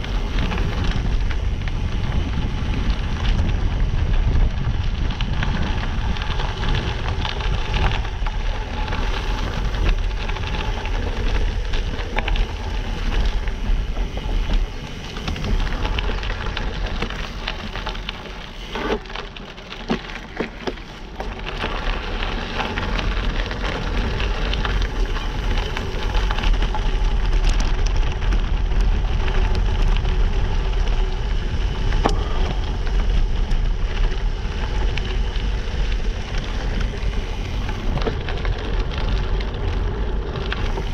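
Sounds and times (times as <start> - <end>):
bike rattling: 0.0 - 40.9
tyres crunching over gravel: 0.0 - 40.9
wind rumbling on microphone: 0.0 - 40.9.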